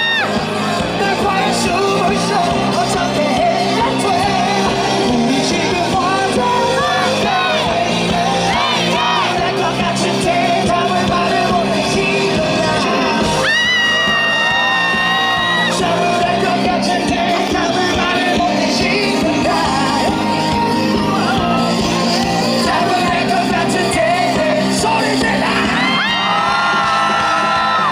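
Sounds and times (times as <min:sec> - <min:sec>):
crowd yelling: 0:00.0 - 0:27.9
live rock band playing: 0:00.0 - 0:27.9
person singing into microphone: 0:00.0 - 0:27.9.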